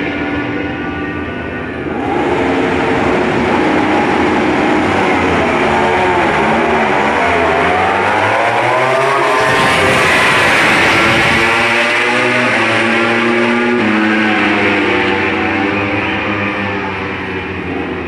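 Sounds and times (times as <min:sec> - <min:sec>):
racing motorcycles passing: 0:00.0 - 0:18.0.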